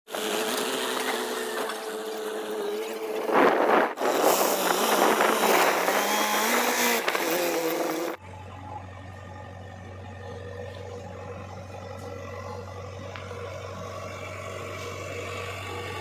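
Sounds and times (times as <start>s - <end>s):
vehicle engine running: 0.1s - 16.0s.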